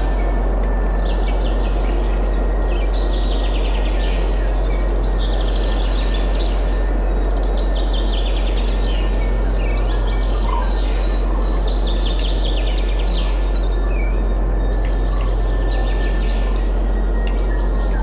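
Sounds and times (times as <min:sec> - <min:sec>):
songbirds singing trills: 0:00.0 - 0:18.0.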